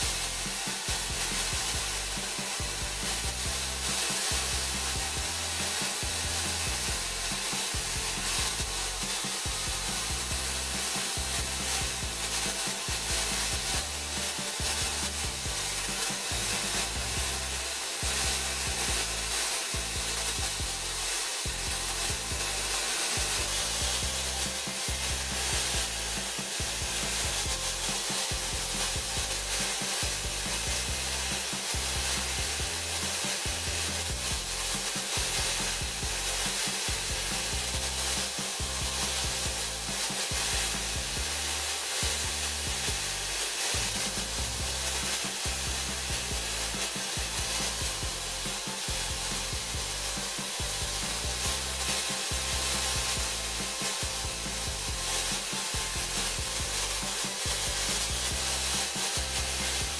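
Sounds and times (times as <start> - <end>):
electric drill motor running: 0.0 - 59.9.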